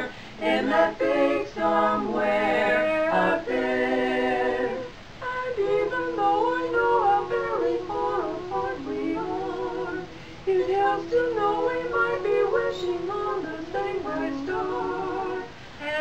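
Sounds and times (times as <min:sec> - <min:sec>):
women singing a cappella: 0:00.0 - 0:16.0.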